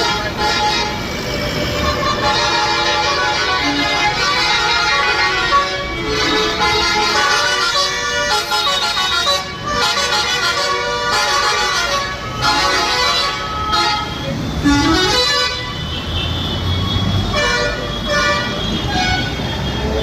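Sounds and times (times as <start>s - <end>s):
moving bus drone: 0.0s - 20.0s
vehicle horns tooting: 0.0s - 20.0s.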